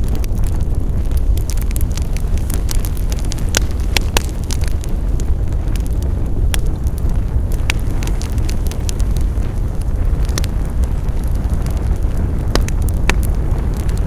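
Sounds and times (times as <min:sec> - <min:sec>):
low rumble of burning fire: 0:00.0 - 0:14.0
sharp pops of burning wood: 0:00.0 - 0:14.0
wood fire crackling: 0:00.0 - 0:14.0.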